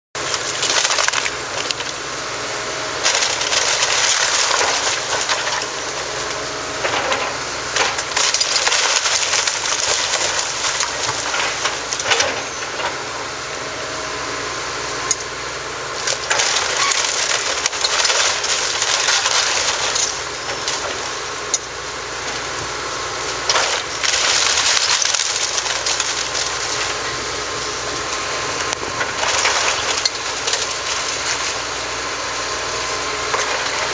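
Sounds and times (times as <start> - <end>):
wood cracking and crashing: 0.2 - 13.1, 15.9 - 32.4, 33.2 - 33.9
excavator diesel engine: 0.2 - 33.9.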